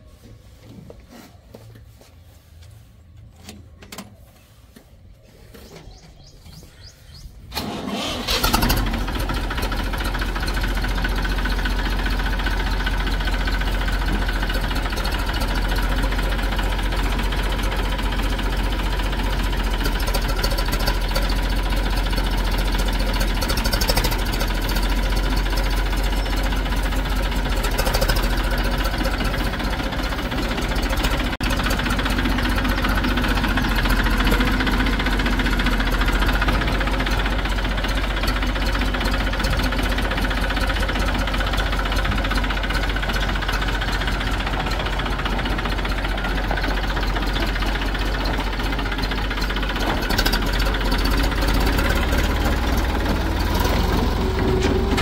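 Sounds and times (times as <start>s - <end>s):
diesel engine starting and running: 5.4s - 55.0s.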